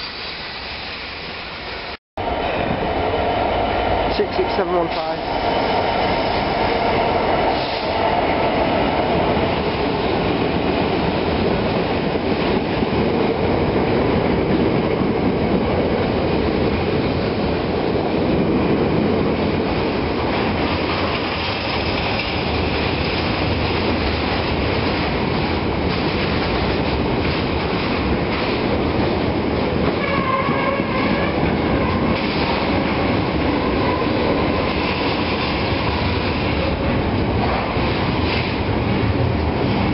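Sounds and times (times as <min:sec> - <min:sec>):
diesel locomotive passing: 0:00.0 - 0:39.9.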